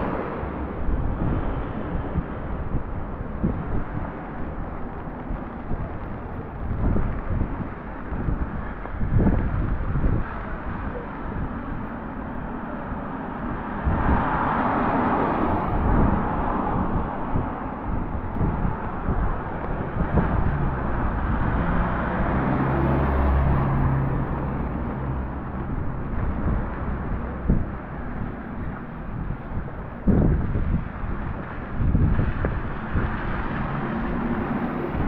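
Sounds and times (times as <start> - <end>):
vehicle engine humming: 0.0 - 35.0
wind rumbling on microphone: 0.0 - 35.0.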